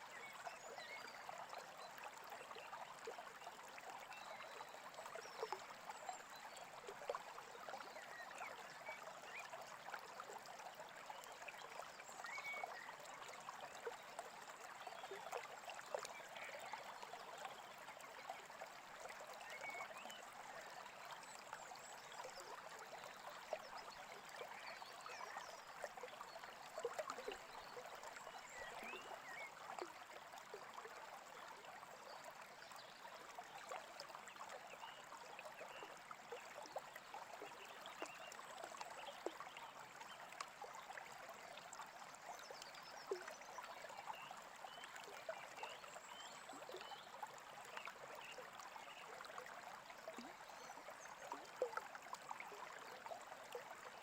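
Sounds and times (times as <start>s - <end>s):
brook babbling: 0.0s - 54.0s.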